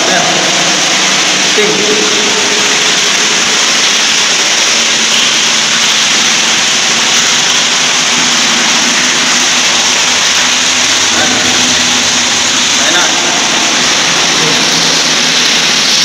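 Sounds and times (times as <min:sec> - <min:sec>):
water rushing into a tank: 0:00.0 - 0:16.0.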